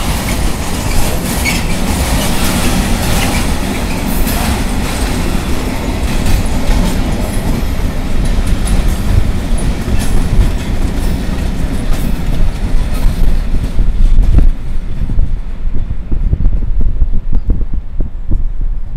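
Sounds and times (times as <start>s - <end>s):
train wheels clattering over rail joints: 0.0s - 15.4s.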